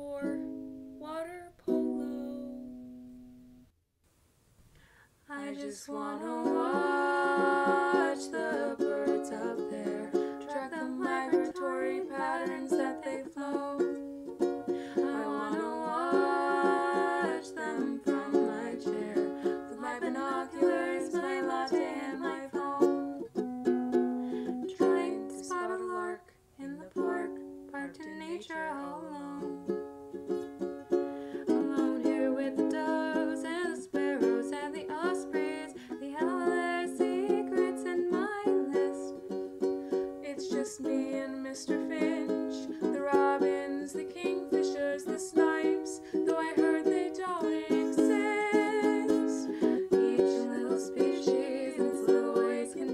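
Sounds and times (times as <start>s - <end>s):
plucked string instrument music: 0.0s - 3.7s, 5.9s - 26.2s, 26.8s - 52.9s.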